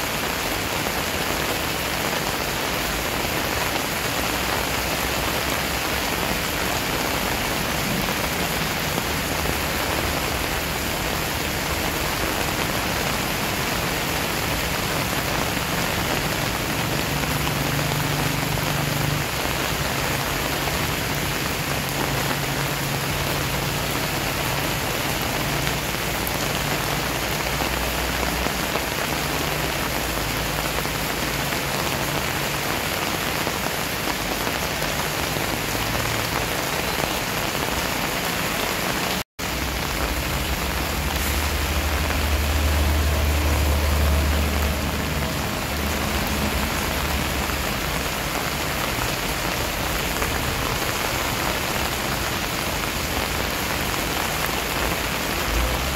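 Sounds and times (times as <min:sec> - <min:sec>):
rain on pavement and leaves: 0:00.0 - 0:55.9.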